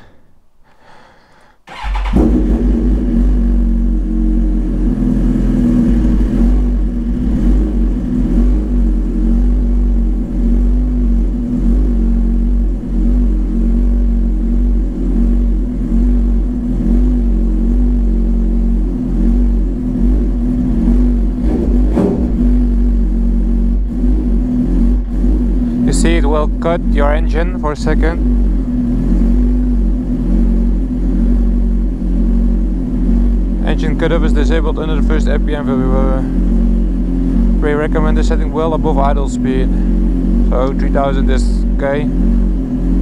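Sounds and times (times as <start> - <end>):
motorcycle engine starting and idling: 1.4 - 43.0.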